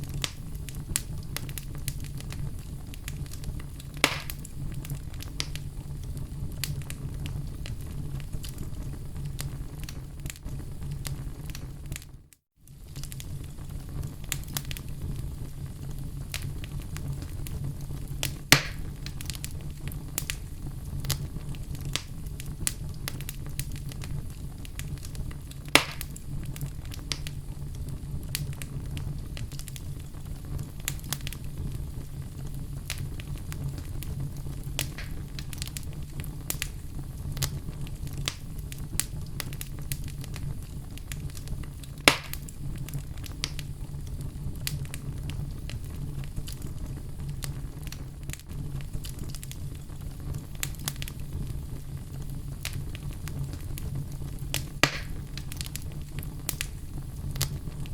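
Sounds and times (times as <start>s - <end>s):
log fire crackling: 0.0s - 57.9s.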